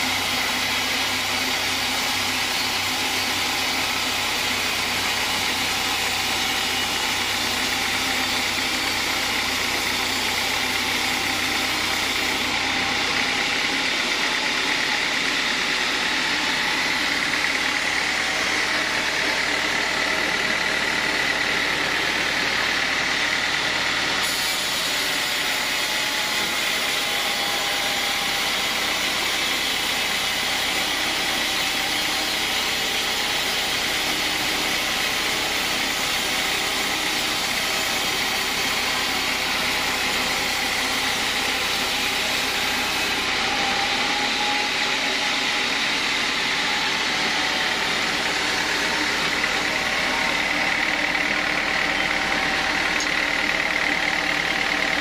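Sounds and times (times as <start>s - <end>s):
band saw cutting log: 0.0s - 55.0s
high saw whine: 0.0s - 55.0s.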